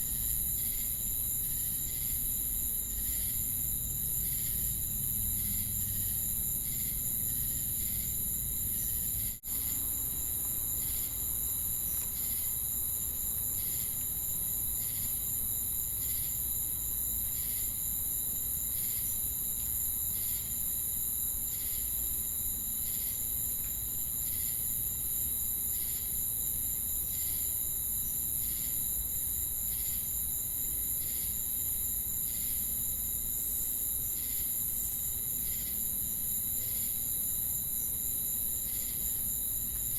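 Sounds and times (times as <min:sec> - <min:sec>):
crickets and cicadas chirping: 0:00.0 - 0:39.9.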